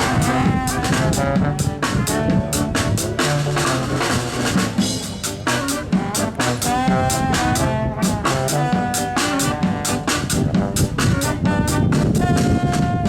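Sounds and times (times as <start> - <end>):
instrumental music with drum beat: 0.0 - 13.0.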